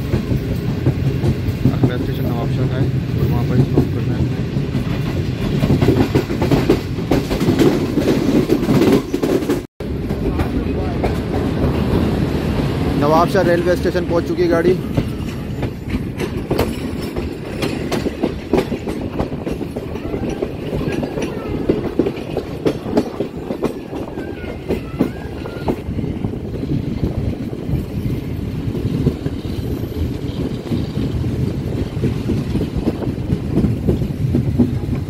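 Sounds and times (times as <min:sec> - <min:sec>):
train coaches rumbling: 0:00.0 - 0:35.0
wheels clacking over rail joints: 0:00.0 - 0:35.0.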